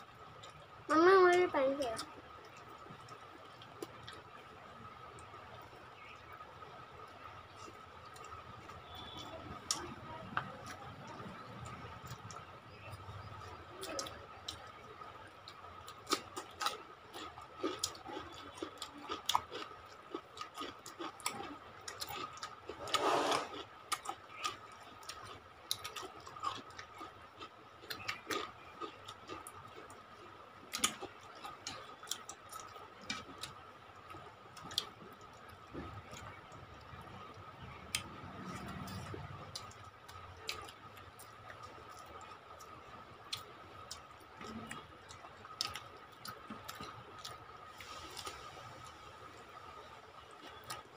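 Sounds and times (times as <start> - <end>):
faint steady whine: 0.0 - 50.9.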